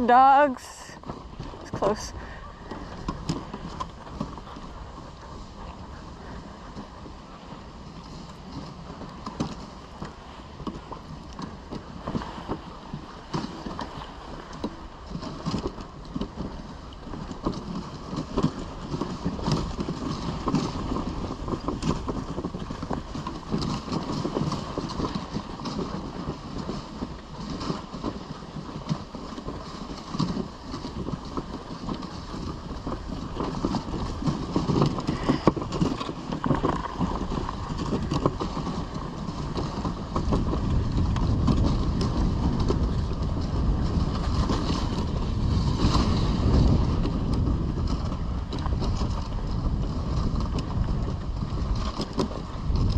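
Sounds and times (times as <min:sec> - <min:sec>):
sled knocks and rattles: 0:00.0 - 0:52.9.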